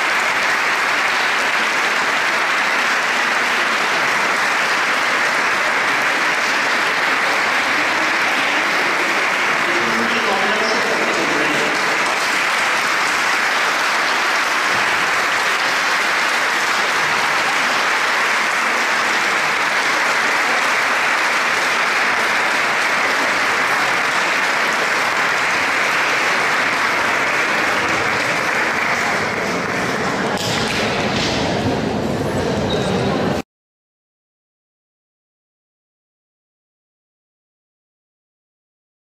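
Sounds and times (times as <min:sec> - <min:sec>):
audience applauding: 0:00.0 - 0:31.7.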